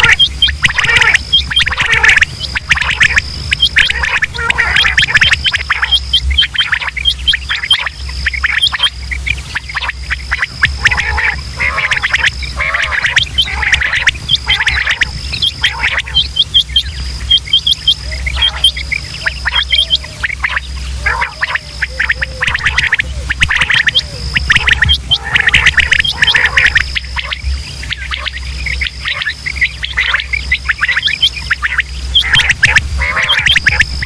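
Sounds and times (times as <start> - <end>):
low hum: 0.0 - 34.0
other bird calls: 0.0 - 34.0
quail calling: 0.0 - 34.0
thin high steady tone: 0.0 - 34.0.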